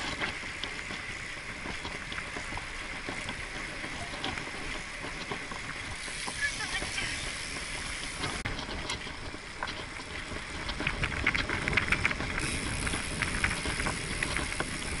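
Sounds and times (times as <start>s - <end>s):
bicycle rattling: 0.0s - 15.0s
road rumble: 0.0s - 15.0s
wind on microphone: 0.0s - 15.0s.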